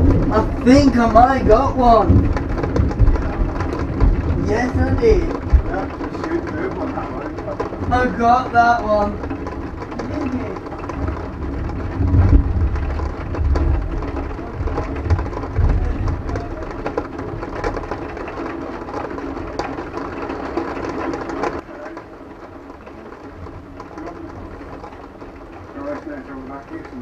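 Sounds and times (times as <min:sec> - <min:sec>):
thunder rumbling: 0:00.0 - 0:21.6
rain pattering: 0:00.0 - 0:27.0.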